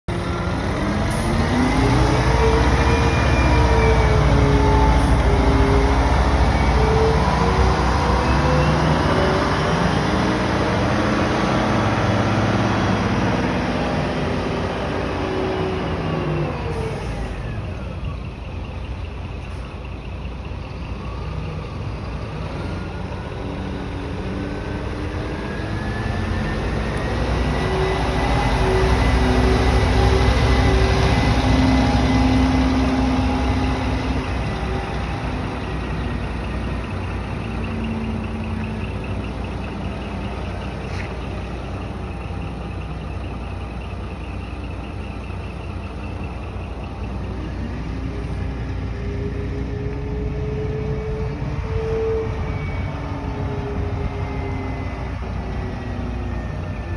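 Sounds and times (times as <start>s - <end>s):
climbing engine whine: 0.1s - 56.9s
truck diesel engine running: 0.1s - 56.9s.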